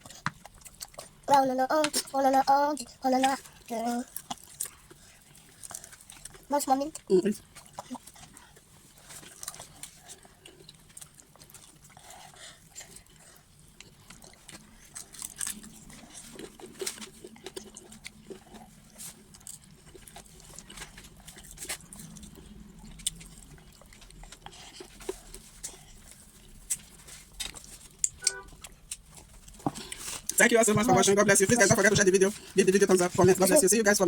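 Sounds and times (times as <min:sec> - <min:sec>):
chewing and mouth smacks: 0:00.0 - 0:33.6.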